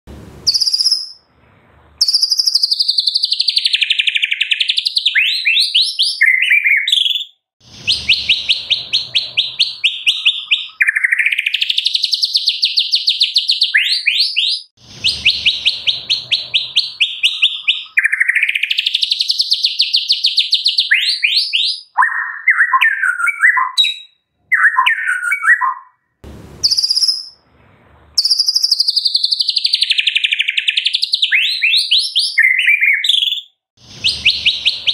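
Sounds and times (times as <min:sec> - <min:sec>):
songbird singing: 0:00.5 - 0:01.2, 0:02.0 - 0:26.0, 0:28.2 - 0:34.9
bird chattering: 0:02.0 - 0:23.5, 0:28.2 - 0:34.9.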